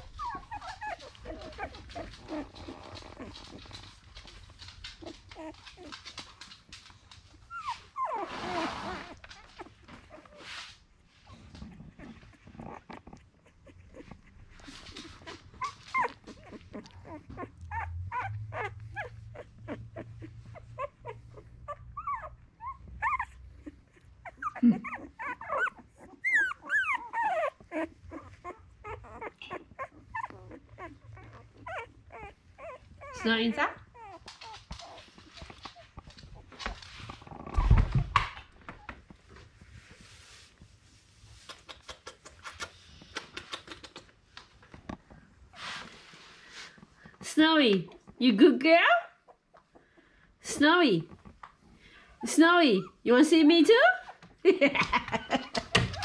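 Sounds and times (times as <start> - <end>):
puppies whimpering and squeaking: 0.0 - 48.4, 49.0 - 54.4.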